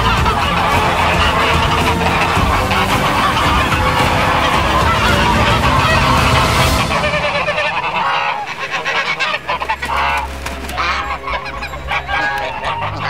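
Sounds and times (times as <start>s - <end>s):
low hum: 0.0s - 12.0s
fowl honking: 0.0s - 13.0s.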